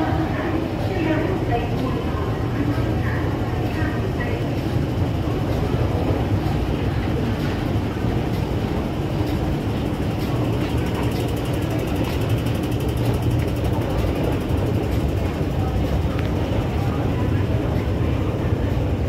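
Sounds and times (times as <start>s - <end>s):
escalator mechanical rumble: 0.0s - 19.0s.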